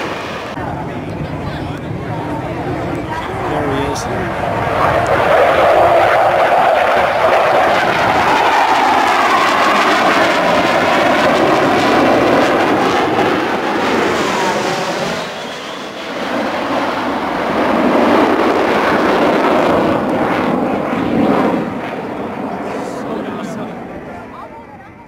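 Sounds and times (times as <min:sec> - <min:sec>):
jets flying past: 0:00.0 - 0:24.4.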